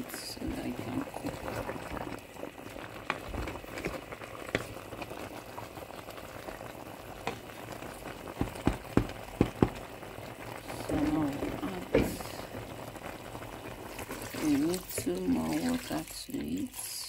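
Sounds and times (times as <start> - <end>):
pot of water bubbling: 0.0 - 17.0.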